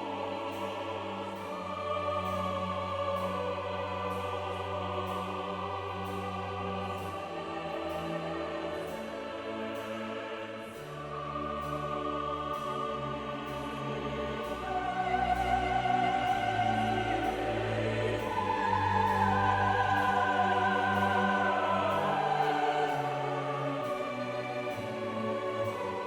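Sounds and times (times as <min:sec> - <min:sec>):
choir singing held chords: 0:00.0 - 0:26.0.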